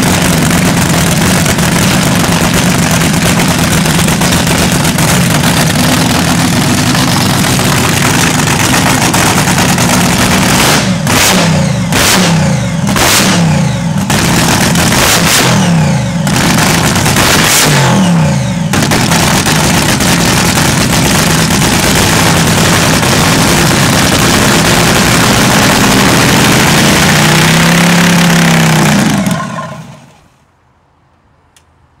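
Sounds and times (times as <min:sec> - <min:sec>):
dragster engine revving: 0:00.0 - 0:30.2.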